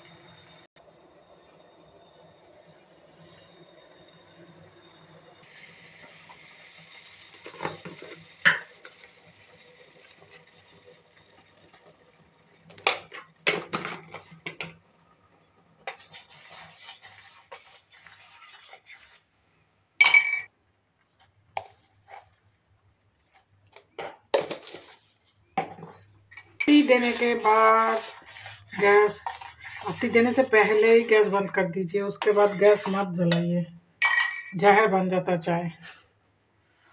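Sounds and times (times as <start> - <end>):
pot boiling with hiss: 0.0 - 20.2, 21.0 - 33.4.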